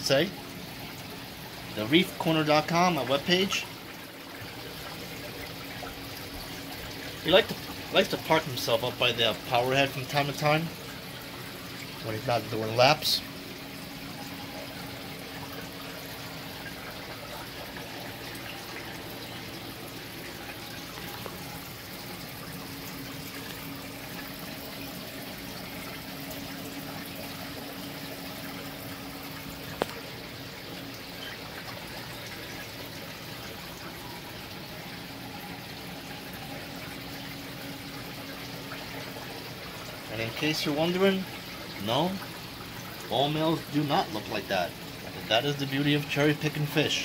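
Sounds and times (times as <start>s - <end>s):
aquarium water rushing: 0.0s - 47.0s.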